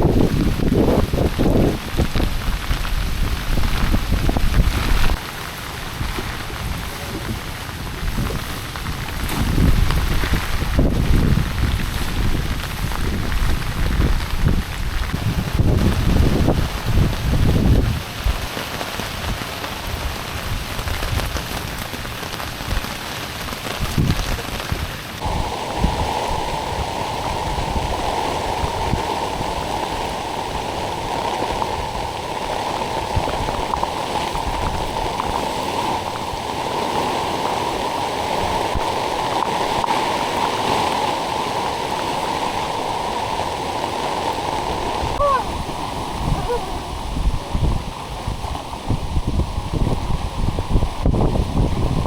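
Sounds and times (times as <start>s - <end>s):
heavy rain: 0.0s - 52.0s
rushing water: 0.0s - 52.0s.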